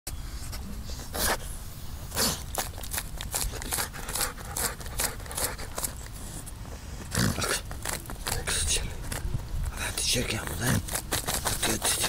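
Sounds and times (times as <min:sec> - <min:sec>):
dog sniffing and snorting: 0:00.3 - 0:12.0
dog scratching dirt: 0:00.5 - 0:12.0.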